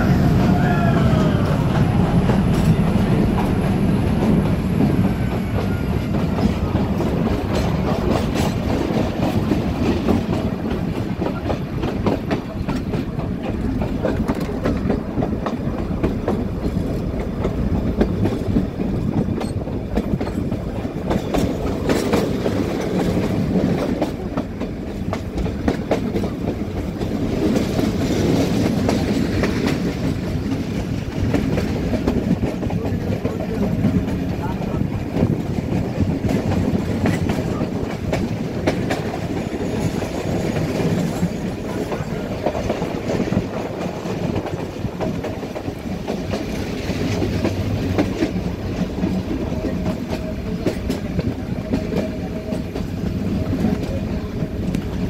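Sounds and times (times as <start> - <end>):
train rumbling: 0.0 - 55.0
wheels clattering over rails: 1.0 - 55.0.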